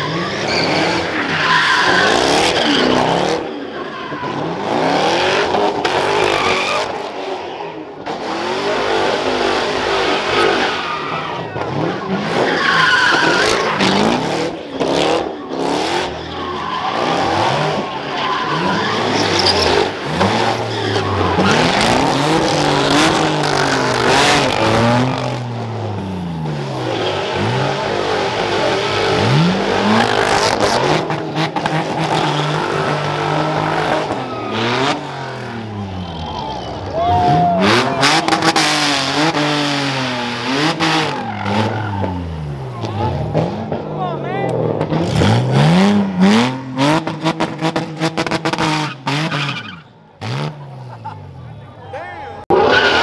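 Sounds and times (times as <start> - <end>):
car engine revving: 0.0 - 51.7
tires screeching on pavement: 0.0 - 53.0.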